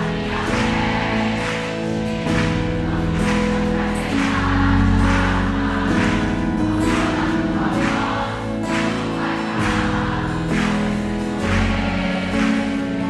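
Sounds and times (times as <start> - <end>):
voices singing like a choir: 0.0 - 13.0
worship band music: 0.0 - 13.0.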